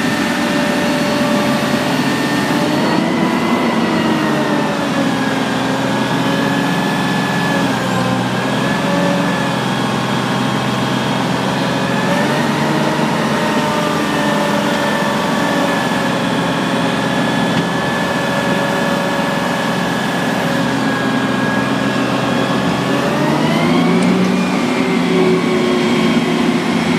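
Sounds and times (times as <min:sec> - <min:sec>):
crane diesel engine running: 0:00.0 - 0:26.9.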